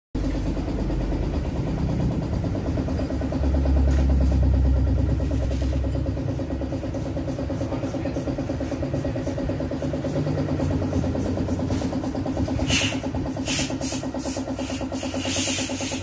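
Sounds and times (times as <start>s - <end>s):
diesel engine clatter: 0.2s - 16.0s.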